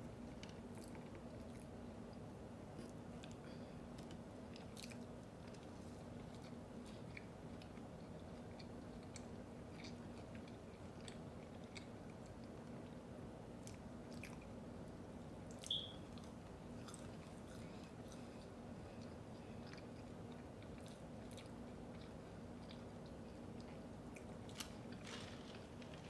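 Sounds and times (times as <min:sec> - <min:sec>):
faint steady hum: 0:00.0 - 0:26.0
chewing food: 0:00.3 - 0:26.0.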